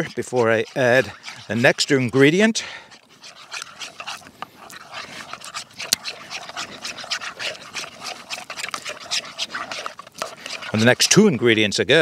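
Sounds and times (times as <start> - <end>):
fork whisking in a wooden bowl: 0.0 - 11.8.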